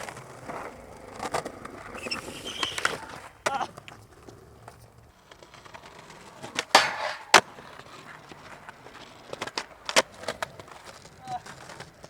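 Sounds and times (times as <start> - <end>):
skateboard clacks: 0.0 - 12.0
skateboard scrape: 0.0 - 12.0.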